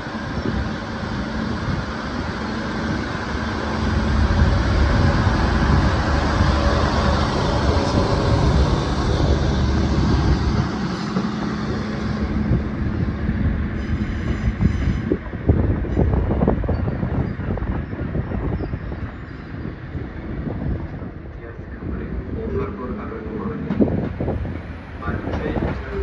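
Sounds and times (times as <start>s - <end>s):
diesel engines droning: 0.0s - 24.0s
train wheels rumbling on rails: 0.0s - 26.0s.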